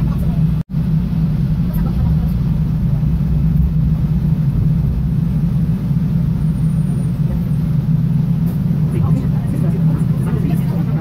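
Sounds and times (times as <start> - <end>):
train car rumble: 0.0 - 11.0.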